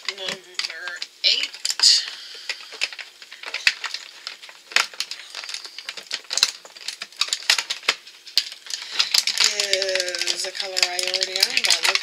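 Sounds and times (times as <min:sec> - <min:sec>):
cardboard crinkling and rustling: 0:00.0 - 0:12.0.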